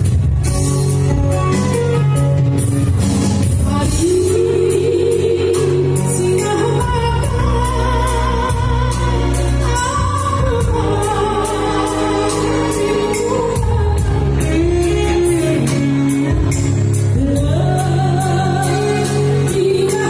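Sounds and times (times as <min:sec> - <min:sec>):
instrumental backing with beat: 0:00.0 - 0:20.0
woman singing: 0:03.6 - 0:20.0.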